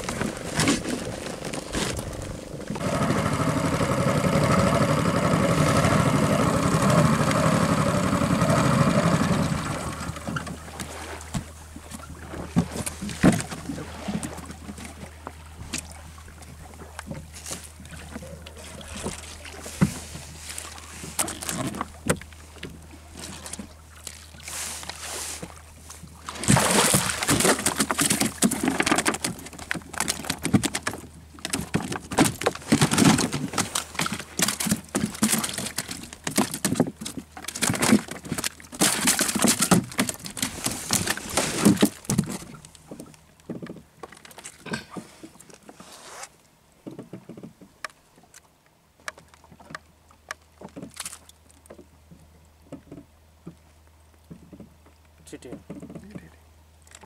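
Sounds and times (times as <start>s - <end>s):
fish splashing and thrashing: 0.0s - 45.8s, 49.1s - 52.0s.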